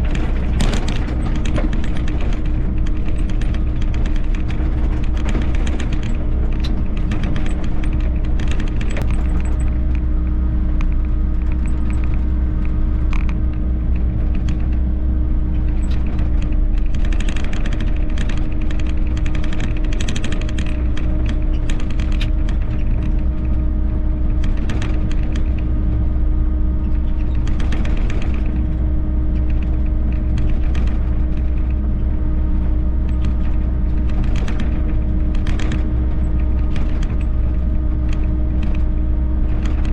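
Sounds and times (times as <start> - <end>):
mini excavator running: 0.0 - 39.9.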